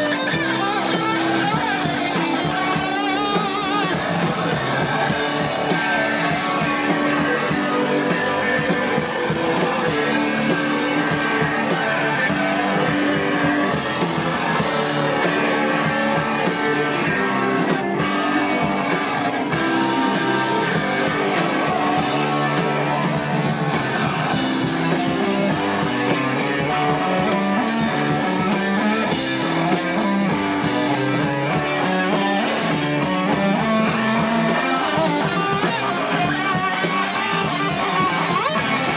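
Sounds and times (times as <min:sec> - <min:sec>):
distorted electric guitars: 0:00.0 - 0:38.9
drum kit beat: 0:00.0 - 0:38.9.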